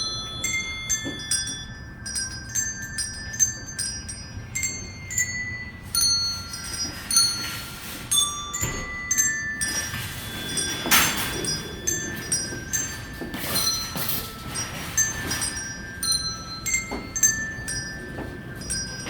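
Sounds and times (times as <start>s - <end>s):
hand bells playing a tune: 0.0s - 19.0s.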